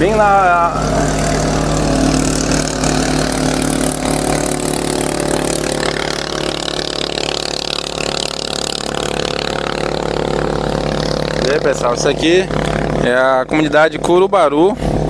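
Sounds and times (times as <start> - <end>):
wind and water rushing: 0.0 - 13.5
boat diesel engine droning: 0.0 - 15.0.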